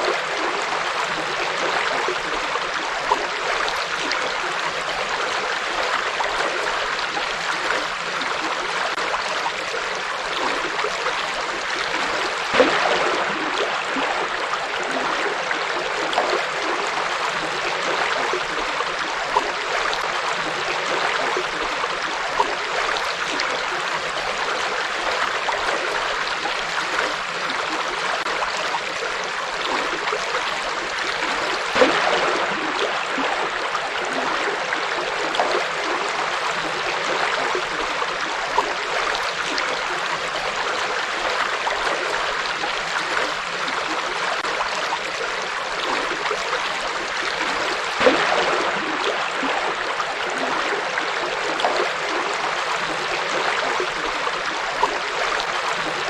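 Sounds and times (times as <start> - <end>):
water splashes: 0.0 - 56.0.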